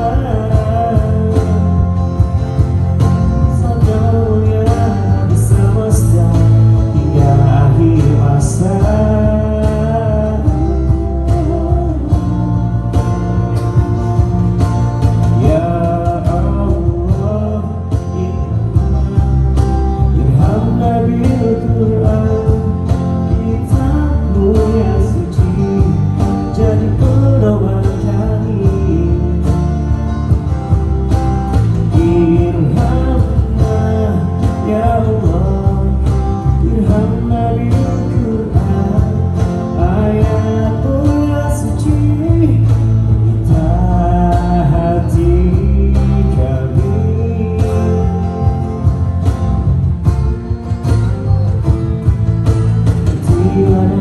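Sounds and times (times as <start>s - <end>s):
electric guitar: 0.0s - 54.0s
live band playing: 0.0s - 54.0s.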